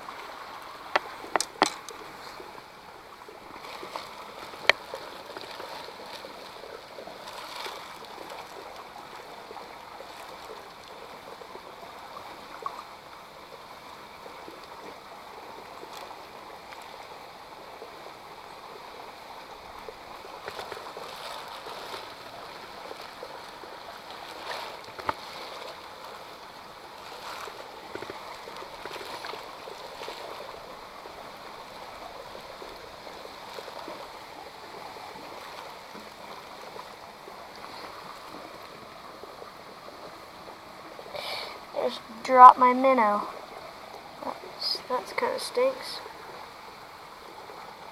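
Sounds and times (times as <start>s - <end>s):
creek water flowing: 0.0s - 47.9s.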